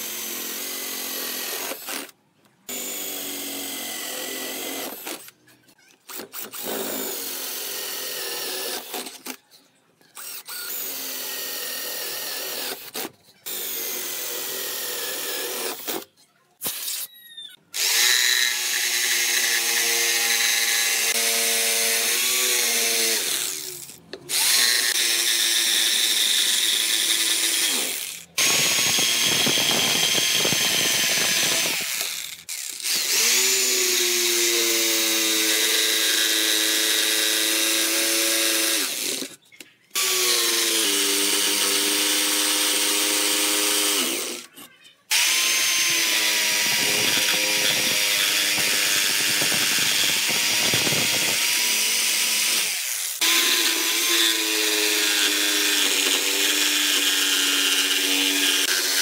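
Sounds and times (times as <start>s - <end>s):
electric jigsaw cutting wood: 0.0s - 5.4s, 6.2s - 9.4s, 10.2s - 16.1s, 17.7s - 39.4s, 40.0s - 44.5s, 45.1s - 59.0s.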